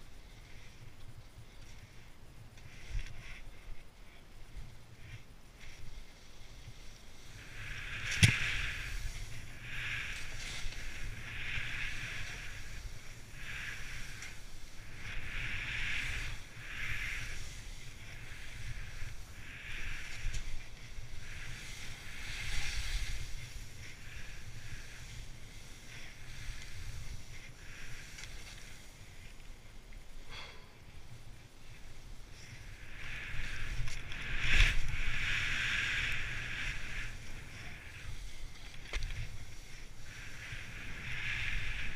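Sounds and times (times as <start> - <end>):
skis swishing through snow: 0.0 - 30.2, 31.0 - 41.9
wind rumble on microphone: 0.0 - 30.3, 30.9 - 41.9.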